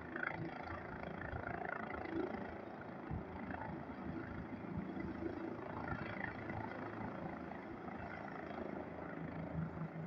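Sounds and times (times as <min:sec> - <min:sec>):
distant helicopter drone: 0:00.0 - 0:10.0.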